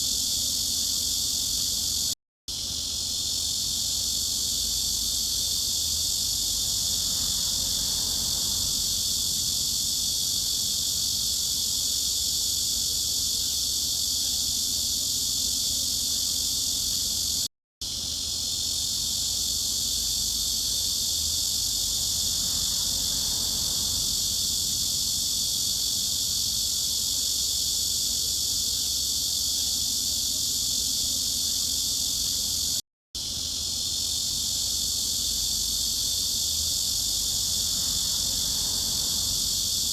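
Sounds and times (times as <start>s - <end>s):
cicada chorus buzzing: 0.0s - 39.9s.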